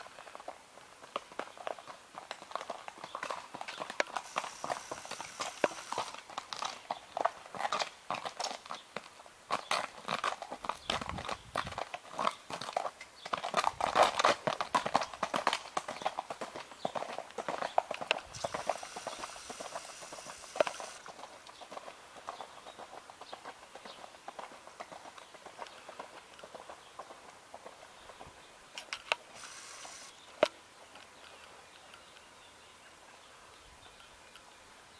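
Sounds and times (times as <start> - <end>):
horse hoofbeats: 0.0 - 31.4.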